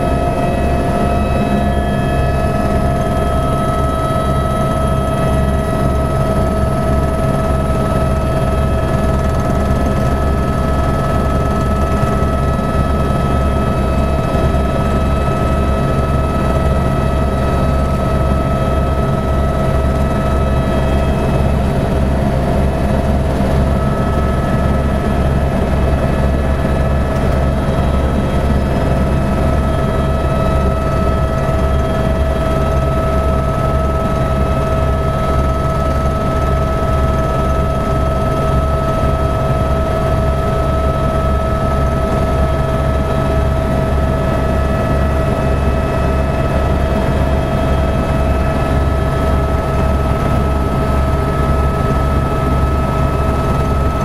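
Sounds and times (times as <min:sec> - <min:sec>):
helicopter rotor rumble: 0:00.0 - 0:54.0
helicopter turbine whine: 0:00.0 - 0:54.0.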